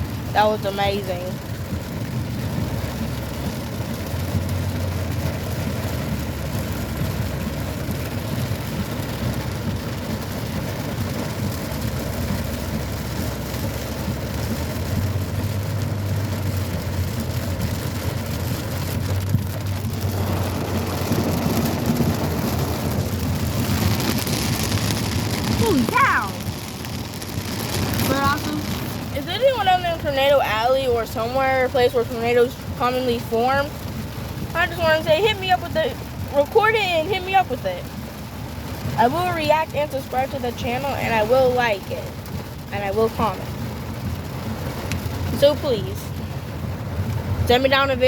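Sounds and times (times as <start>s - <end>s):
heavy rain drumming on car roof: 0.0s - 48.0s
vehicle droning: 0.0s - 48.0s.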